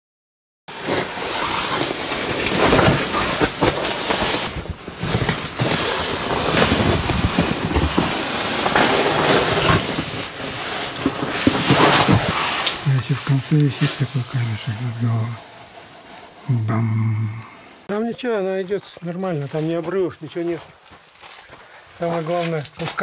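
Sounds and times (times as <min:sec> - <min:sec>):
scuffs and rustles of climbing: 0:00.7 - 0:16.5, 0:17.9 - 0:23.0.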